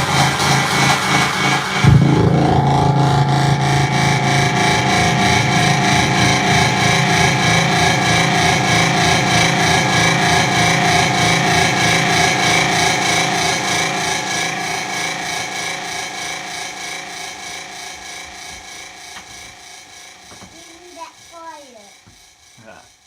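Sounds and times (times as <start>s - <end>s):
electric guitar drone: 0.0s - 19.3s.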